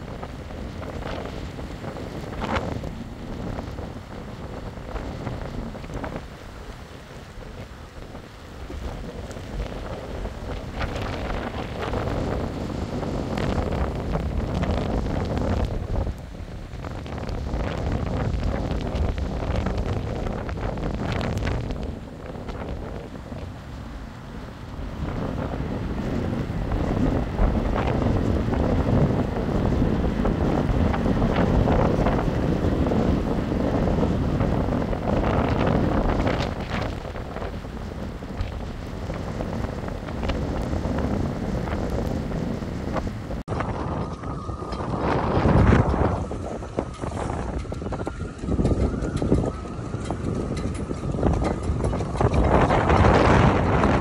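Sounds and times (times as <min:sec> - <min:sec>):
surf breaking on shore: 0:00.0 - 0:50.2
wind buffeting microphone: 0:00.0 - 0:54.0.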